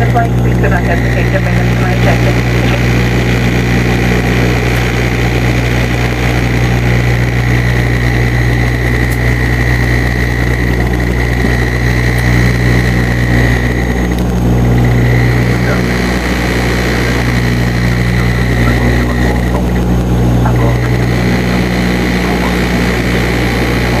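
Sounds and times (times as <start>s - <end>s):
high engine whine: 0.0s - 24.0s
propeller engines droning: 0.0s - 24.0s.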